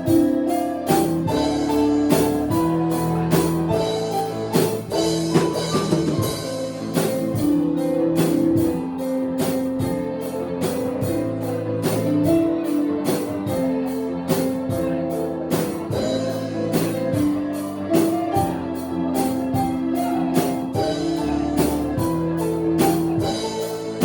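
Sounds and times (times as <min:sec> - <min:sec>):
instrumental band music: 0:00.0 - 0:24.0.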